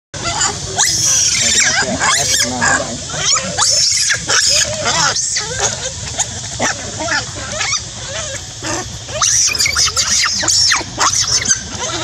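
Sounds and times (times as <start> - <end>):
monkey screaming shrill calls: 0.2 - 12.0.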